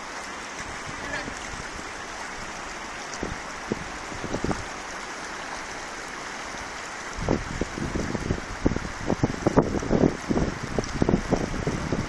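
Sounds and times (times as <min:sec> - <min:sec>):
floodwater rushing: 0:00.0 - 0:12.0
wind buffeting microphone: 0:00.6 - 0:05.0, 0:06.6 - 0:12.0.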